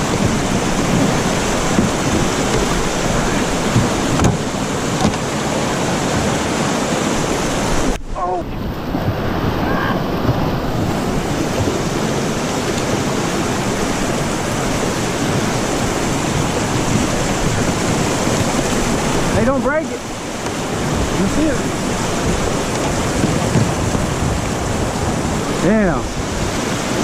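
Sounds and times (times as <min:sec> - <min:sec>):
river water rushing over rocks: 0:00.0 - 0:27.0.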